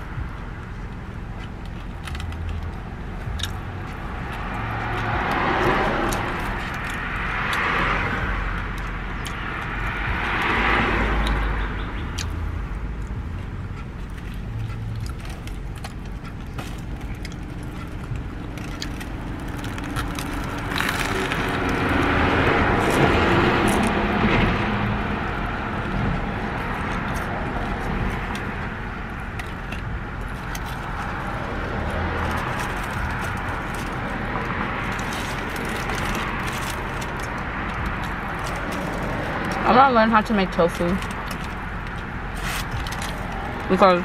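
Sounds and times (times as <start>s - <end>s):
road traffic noise: 0.0s - 44.0s
vehicle passing: 0.0s - 44.0s.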